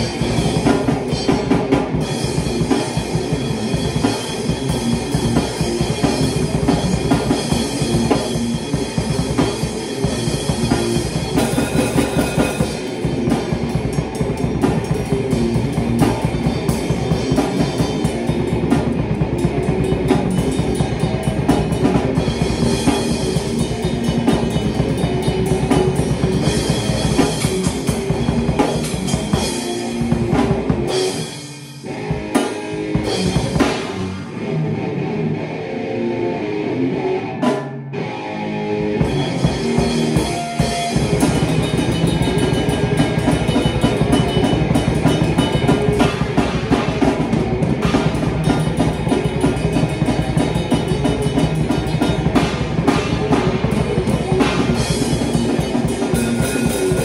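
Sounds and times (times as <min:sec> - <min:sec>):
drum kit with crashing cymbals: 0:00.0 - 0:34.3, 0:39.0 - 0:57.0
electric guitar: 0:00.0 - 0:57.0.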